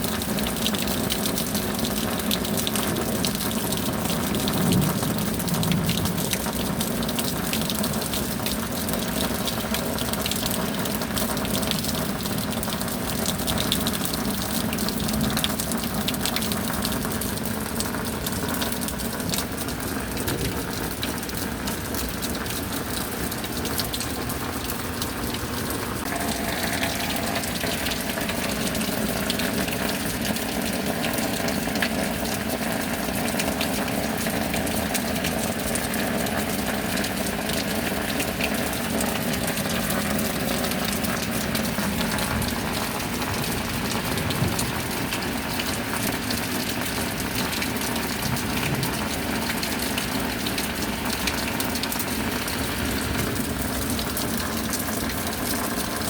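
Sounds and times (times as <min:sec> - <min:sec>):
heavy rain gushing: 0:00.0 - 0:56.0.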